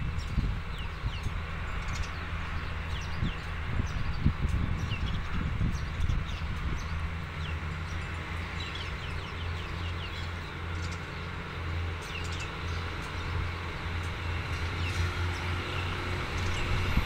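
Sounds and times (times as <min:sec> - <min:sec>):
low engine hum: 0:00.0 - 0:17.0
small birds chirping: 0:00.0 - 0:17.0.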